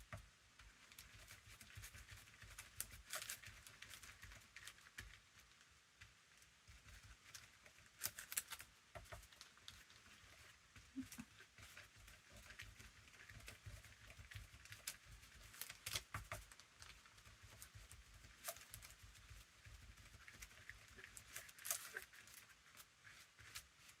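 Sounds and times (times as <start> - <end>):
brush tapping and scraping: 0.0 - 24.0.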